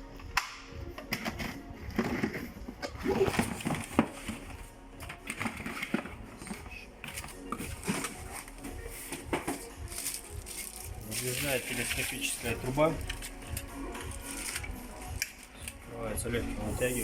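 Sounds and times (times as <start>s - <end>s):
quiet background music: 0.0s - 17.0s.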